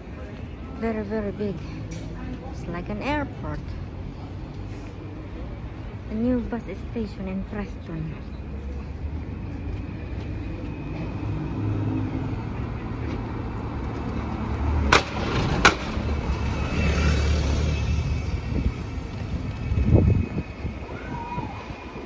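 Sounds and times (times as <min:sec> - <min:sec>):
bus engine rumbling: 0:00.0 - 0:22.0
road traffic: 0:00.0 - 0:22.0.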